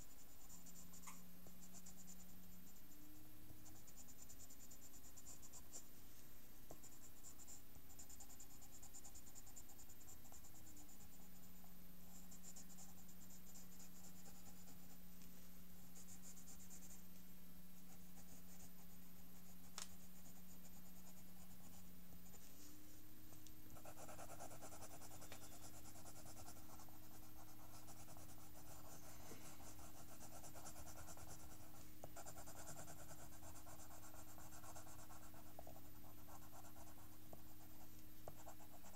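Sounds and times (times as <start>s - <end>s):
steady low hum: 0.0s - 38.9s
pencil scratching on paper: 1.5s - 2.2s, 3.5s - 5.9s, 6.8s - 11.5s, 12.1s - 15.0s, 15.8s - 17.0s, 17.9s - 22.4s, 23.7s - 38.9s.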